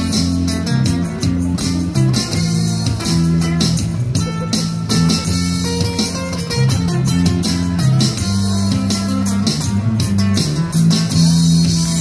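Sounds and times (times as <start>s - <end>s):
amplified instrumental band: 0.0s - 12.0s.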